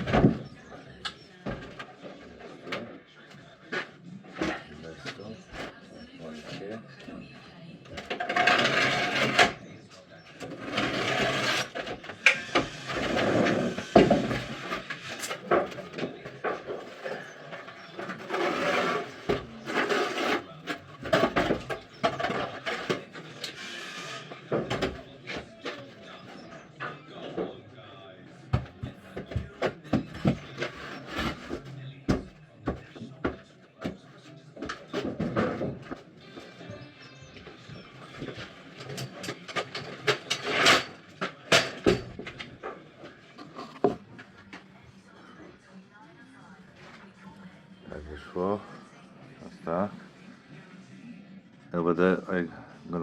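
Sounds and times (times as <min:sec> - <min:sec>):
wood scraping and rubbing: 0:00.0 - 0:07.3, 0:07.9 - 0:44.8
knocks and clatters of boards and tools: 0:00.0 - 0:27.7, 0:28.3 - 0:44.7.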